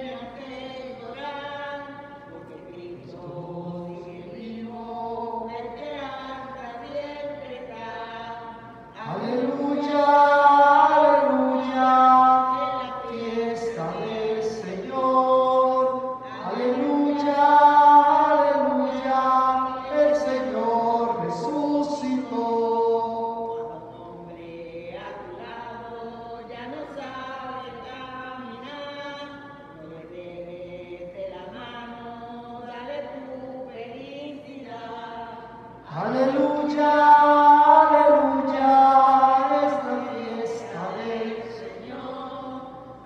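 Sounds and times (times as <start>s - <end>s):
singing a hymn: 0.0s - 43.0s.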